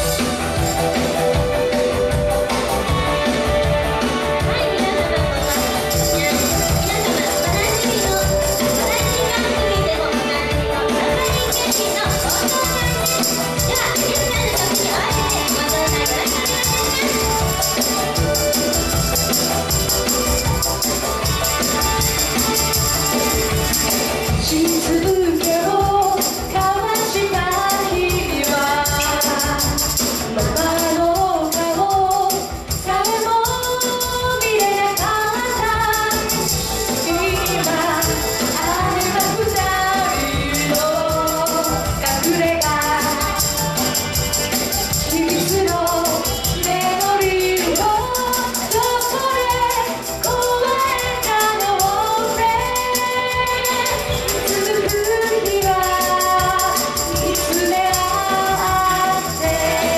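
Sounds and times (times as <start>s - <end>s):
electric guitar: 0.0s - 59.9s
woman singing: 2.8s - 59.9s
tambourine jingling: 4.7s - 59.9s.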